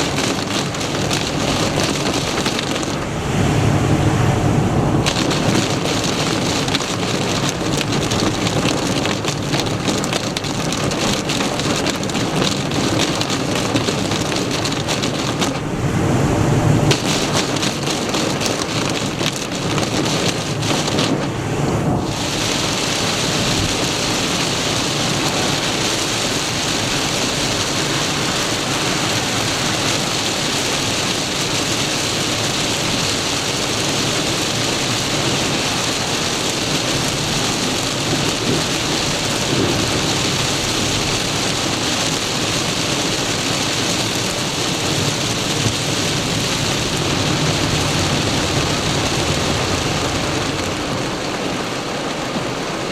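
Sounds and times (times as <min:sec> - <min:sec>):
heavy rain on a car: 0:00.0 - 0:52.9.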